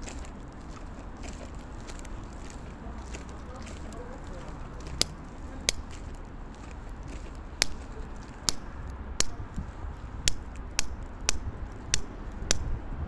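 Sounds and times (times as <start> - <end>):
heel clicks on pavement: 0.0 - 12.7
low outdoor rumble: 0.0 - 13.0.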